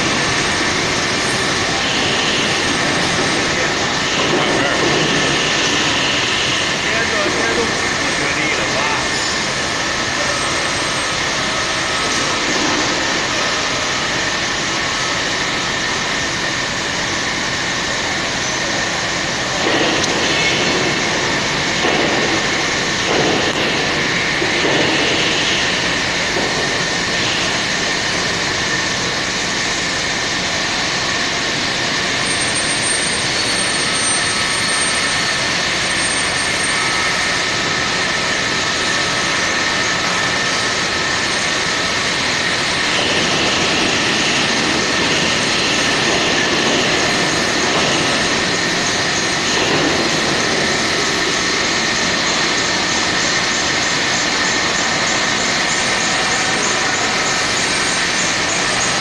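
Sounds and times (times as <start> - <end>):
high machine whine: 0.0 - 59.0
hydraulic press machine drone: 0.0 - 59.0.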